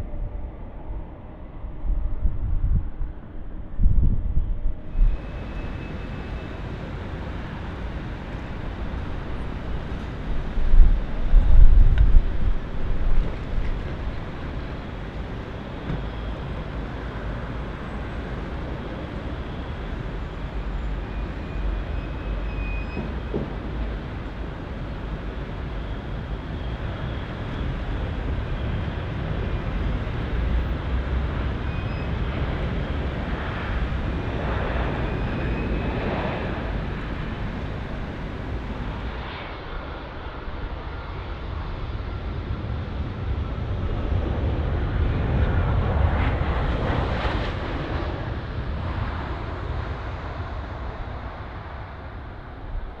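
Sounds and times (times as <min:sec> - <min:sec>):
faint high engine whine: 0:00.0 - 0:53.0
jet engine noise: 0:00.0 - 0:53.0.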